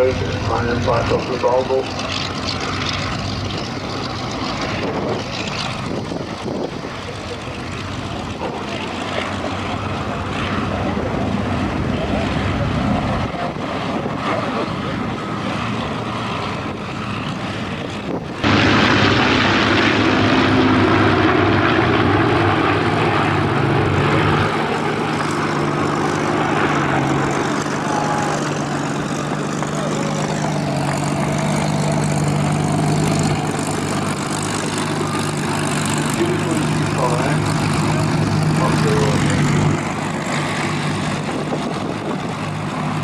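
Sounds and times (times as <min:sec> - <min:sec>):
propeller plane engine drone: 0:00.0 - 0:43.0.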